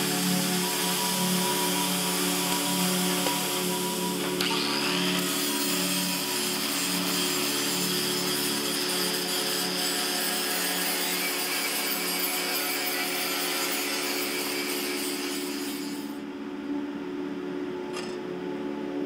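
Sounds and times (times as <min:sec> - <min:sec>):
angle grinder cutting steel: 0:00.0 - 0:16.2.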